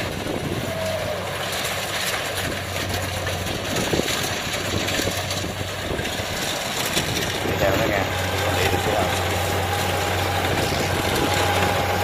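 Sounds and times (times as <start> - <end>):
combine harvester diesel engine: 0.0 - 12.0.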